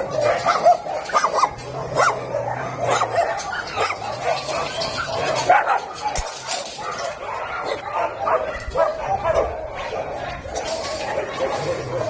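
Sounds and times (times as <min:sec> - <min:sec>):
many dogs barking: 0:00.0 - 0:12.0.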